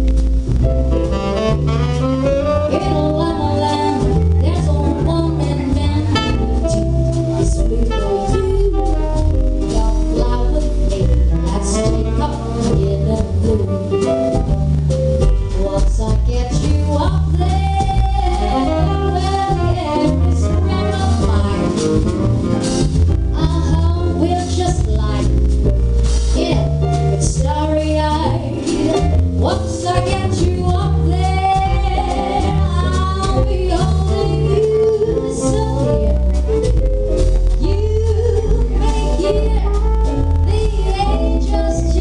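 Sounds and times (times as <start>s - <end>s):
walking bass line: 0.0s - 42.0s
woman singing: 2.6s - 14.4s, 15.3s - 22.2s, 23.3s - 25.5s, 26.3s - 36.4s, 37.5s - 42.0s.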